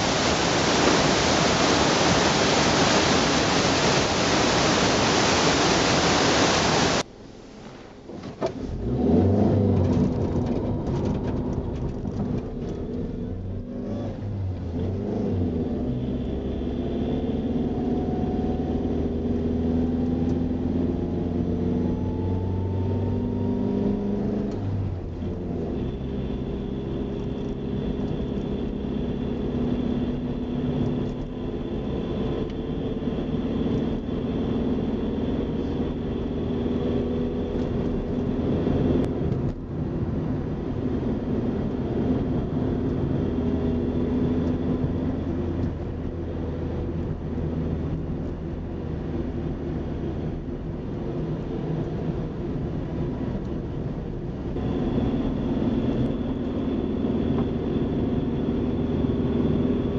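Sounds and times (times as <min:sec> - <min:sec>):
car engine: 0:00.0 - 0:59.9
road noise inside car: 0:00.0 - 0:59.9.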